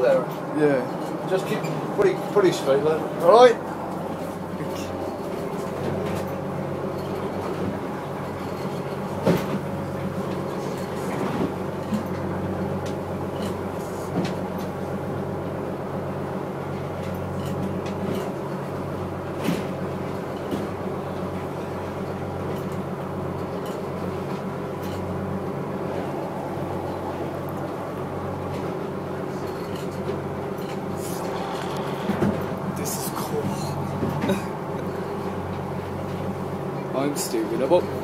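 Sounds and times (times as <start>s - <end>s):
boat engine droning: 0.0s - 38.0s.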